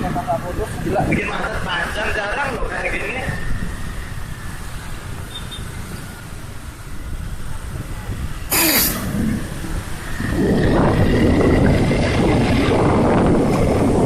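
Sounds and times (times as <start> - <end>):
loud rush of traffic noise: 0.0 - 14.0
vehicle engines running: 0.0 - 14.0.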